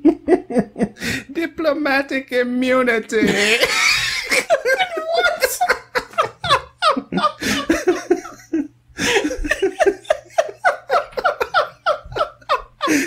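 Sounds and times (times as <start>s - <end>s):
people laughing hard: 0.0s - 1.0s, 3.2s - 13.0s.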